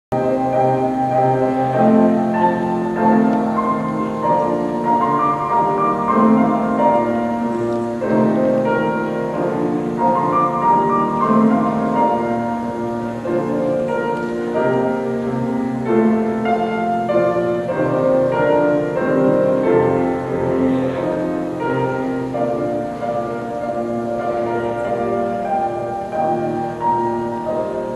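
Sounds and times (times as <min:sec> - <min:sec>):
classical piano music: 0:00.1 - 0:27.9.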